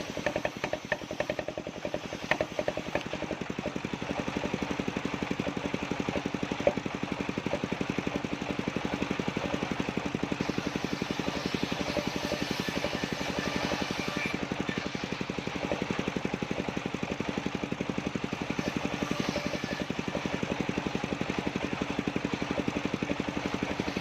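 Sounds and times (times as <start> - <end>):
sawmill engine pulsing: 0.0 - 24.0.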